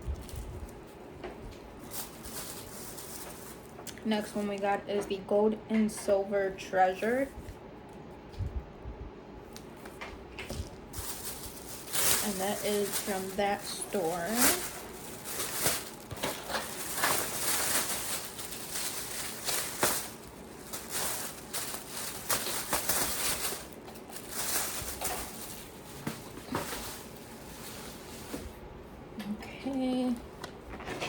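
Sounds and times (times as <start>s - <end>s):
plastic bag rustling: 0.0s - 5.3s, 9.5s - 31.0s.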